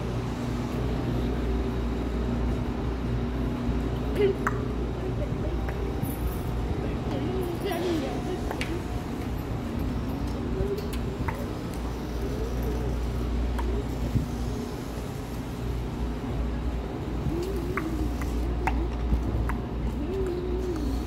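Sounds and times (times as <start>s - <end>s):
faint voices of passers-by: 0.0s - 21.0s
low street rumble: 0.0s - 21.0s.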